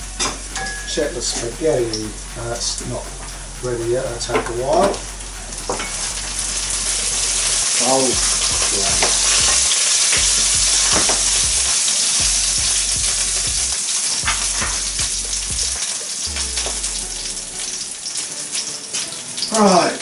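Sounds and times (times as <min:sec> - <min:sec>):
sauce sizzling in oil: 0:00.0 - 0:20.0.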